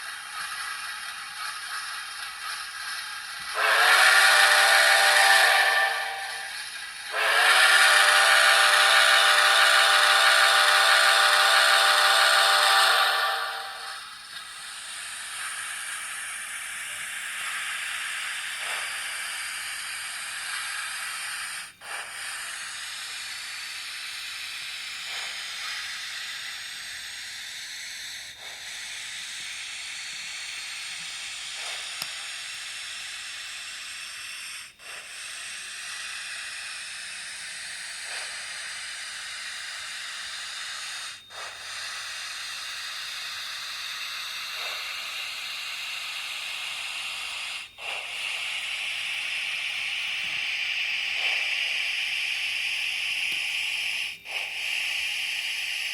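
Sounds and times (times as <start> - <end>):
steam hiss: 0.0 - 55.9.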